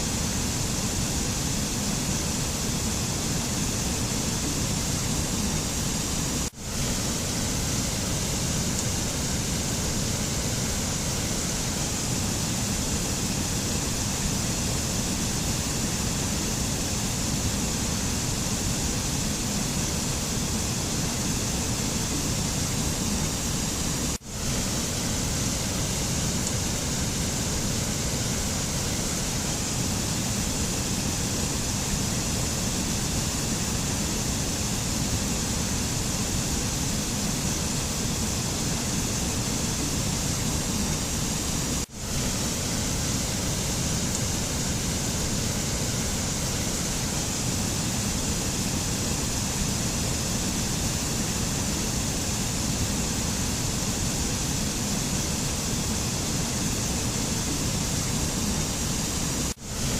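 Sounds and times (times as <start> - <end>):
rushing nature ambience: 0.0 - 59.9.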